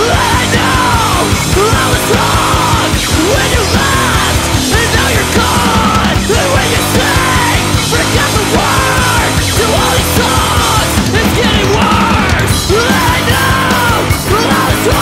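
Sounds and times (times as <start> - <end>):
rock band playing loud: 0.0 - 15.0.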